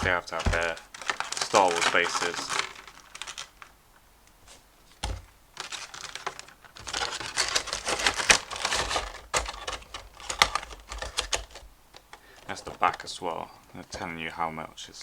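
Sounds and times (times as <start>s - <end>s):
toy box rustling and crinkling: 0.0s - 3.7s, 4.4s - 14.1s.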